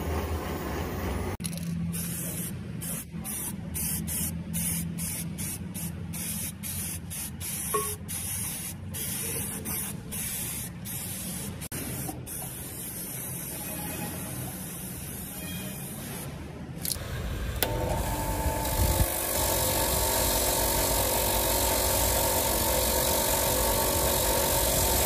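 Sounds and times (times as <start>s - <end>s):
spray-paint can hissing: 1.5s - 16.2s, 18.6s - 25.0s.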